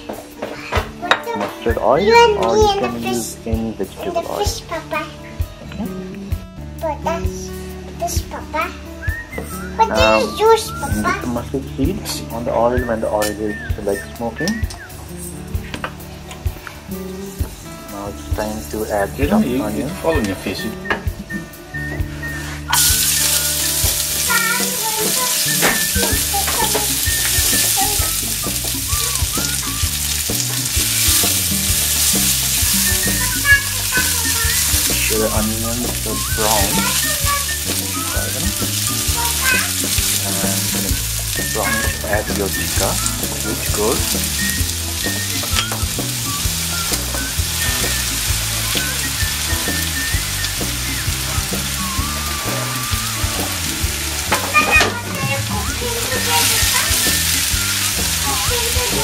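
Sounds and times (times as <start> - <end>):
onion sizzling in oil: 1.0 - 59.0.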